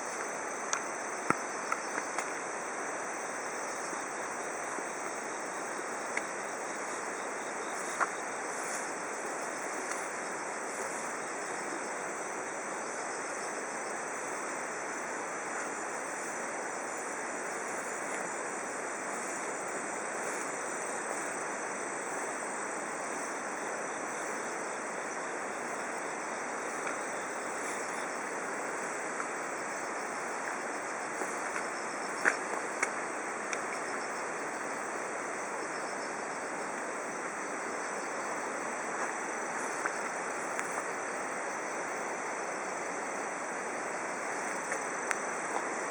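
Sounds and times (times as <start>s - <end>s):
constant rushing hiss: 0.0s - 45.9s
insects chirring: 0.0s - 45.9s.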